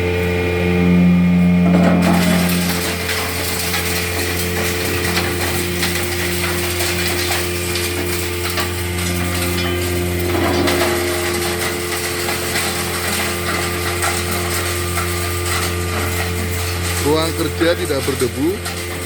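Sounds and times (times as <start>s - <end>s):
hammer mill motor hum: 0.0s - 19.0s
stone grinding rattling crackle: 1.7s - 19.0s.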